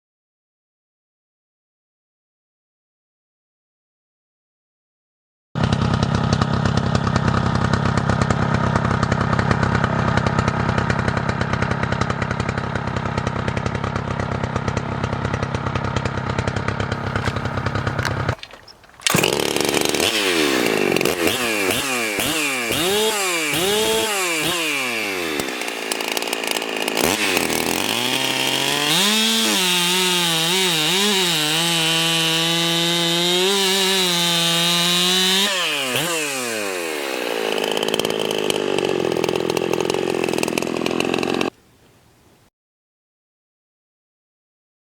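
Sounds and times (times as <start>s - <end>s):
chainsaw idling and revving: 5.6s - 41.6s.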